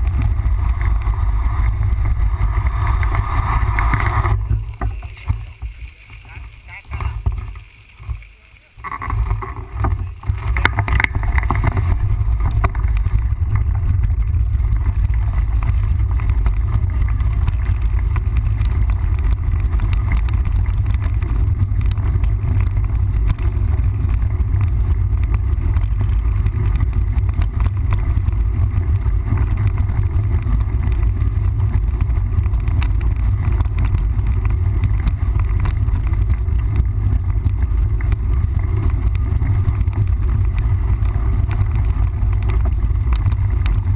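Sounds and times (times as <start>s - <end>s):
wind buffeting microphone: 0.0s - 8.2s, 8.8s - 43.9s
tyre and trail noise: 0.0s - 43.9s.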